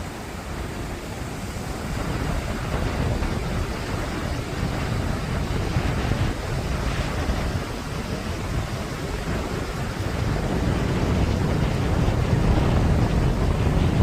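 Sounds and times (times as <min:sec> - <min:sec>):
surf washing on beach: 0:00.0 - 0:14.0
wind gusting on microphone: 0:00.0 - 0:14.0.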